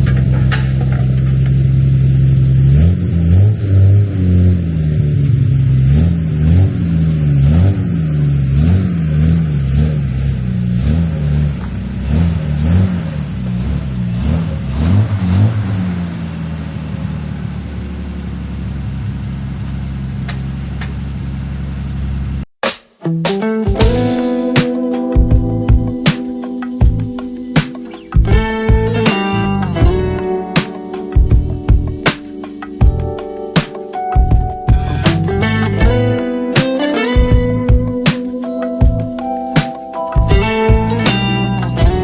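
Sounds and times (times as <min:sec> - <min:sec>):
car engine revving and idling: 0:00.0 - 0:22.5, 0:25.2 - 0:42.0.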